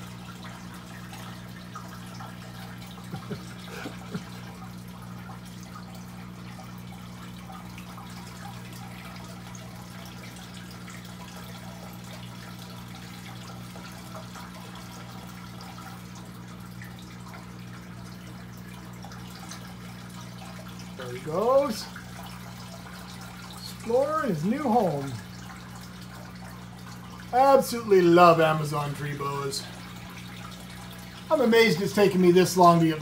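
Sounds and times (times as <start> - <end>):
low electrical hum: 0.0 - 33.0
water trickling: 0.0 - 33.0.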